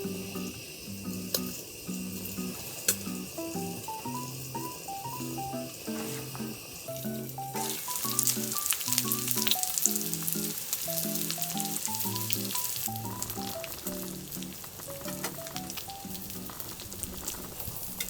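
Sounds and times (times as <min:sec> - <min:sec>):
food sizzling in a pan: 0:00.0 - 0:18.0
soft background music: 0:00.0 - 0:18.0.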